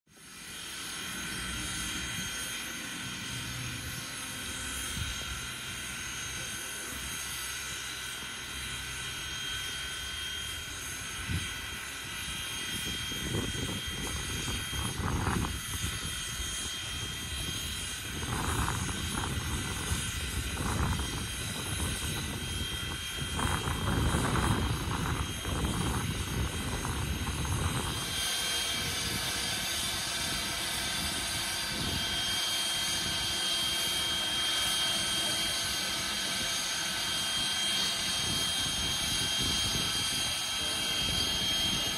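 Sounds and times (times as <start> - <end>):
steam locomotive hissing: 0.2 - 41.9.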